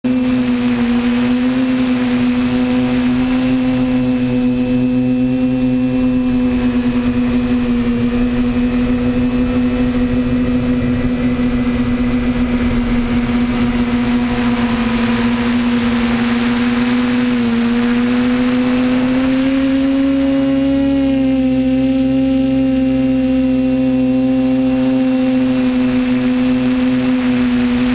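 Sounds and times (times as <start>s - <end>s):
drone motors humming: 0.0s - 27.9s
high propeller whine: 0.0s - 27.9s.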